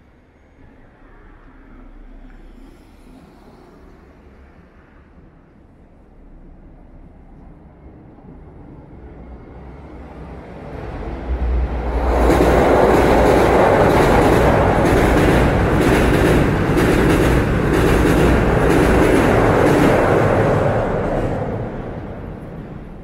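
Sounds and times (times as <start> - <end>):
train rumbling over bridge: 0.0 - 23.0.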